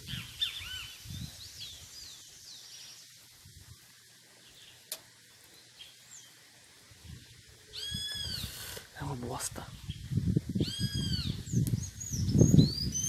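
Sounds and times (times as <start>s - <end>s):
faint birds chirping: 0.0s - 13.0s
steady high hiss: 0.0s - 13.0s.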